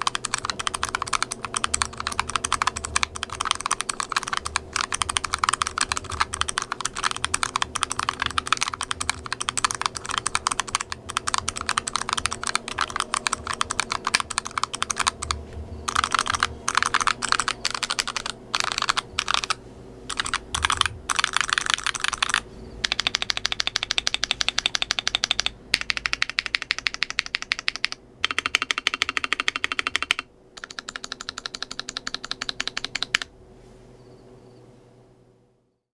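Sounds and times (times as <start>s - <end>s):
mechanical keyboard typing: 0.0s - 33.3s.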